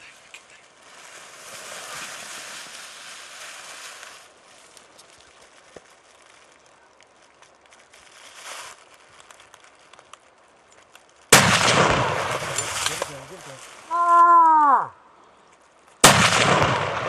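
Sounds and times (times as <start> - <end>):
rustling and crinkling: 0.0 - 14.6, 15.3 - 16.0
soft hiss: 0.0 - 17.0.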